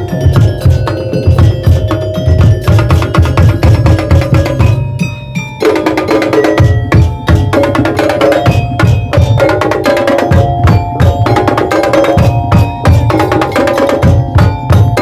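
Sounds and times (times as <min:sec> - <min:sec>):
low drum beat: 0:00.0 - 0:04.9, 0:05.7 - 0:15.0
drum and wood-block strokes: 0:00.0 - 0:15.0
ringing pitched metal tones: 0:00.0 - 0:15.0.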